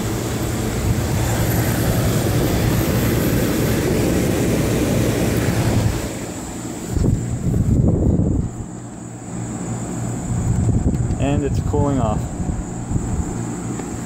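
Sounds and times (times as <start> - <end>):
air conditioner compressor humming: 0.0 - 14.0
air conditioner fan rushing: 0.0 - 14.0.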